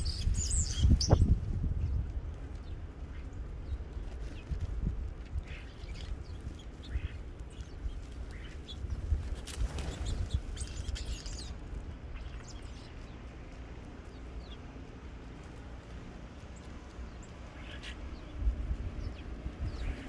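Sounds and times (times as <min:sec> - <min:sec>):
birds chirping: 0:00.0 - 0:20.0
low steady rumble: 0:00.0 - 0:20.0.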